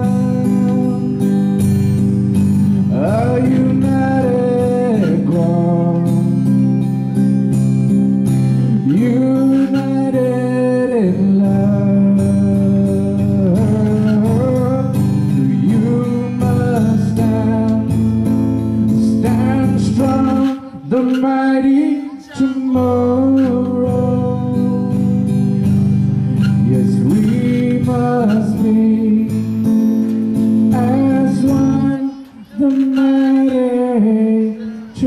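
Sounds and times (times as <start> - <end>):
man singing: 0.0 - 7.3, 8.6 - 35.0
acoustic guitar strumming: 0.0 - 35.0.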